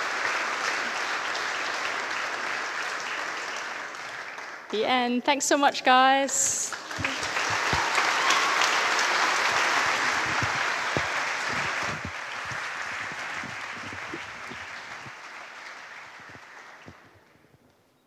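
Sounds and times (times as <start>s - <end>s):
audience applauding: 0.0s - 4.8s, 6.7s - 17.4s.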